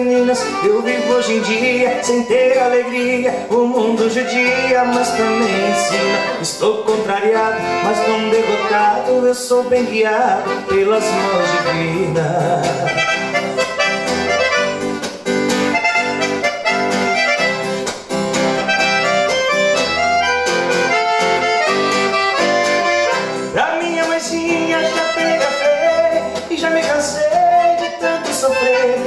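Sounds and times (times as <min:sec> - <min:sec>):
accordion melody: 0:00.0 - 0:29.0
strummed rhythm accompaniment: 0:00.0 - 0:29.0.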